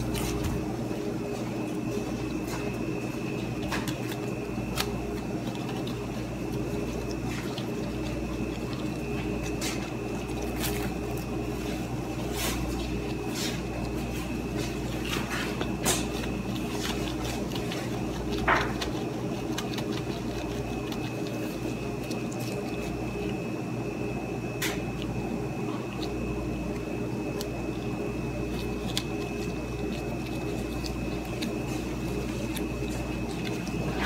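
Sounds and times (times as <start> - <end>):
appliance hum with high whine: 0.0 - 34.0
plastic gloves crinkling on dough: 0.0 - 34.0.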